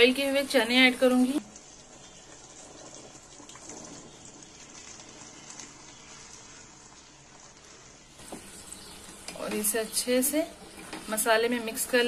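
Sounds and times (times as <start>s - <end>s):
faint sizzling in a pan: 0.0s - 12.0s.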